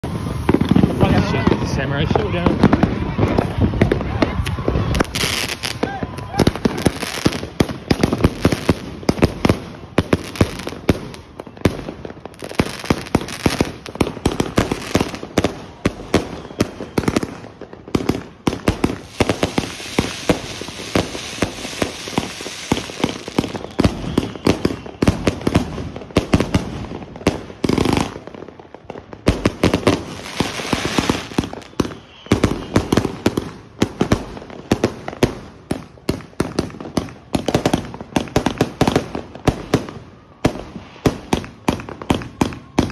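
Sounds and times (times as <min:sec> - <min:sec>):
firework cake volley: 0:00.0 - 0:42.9.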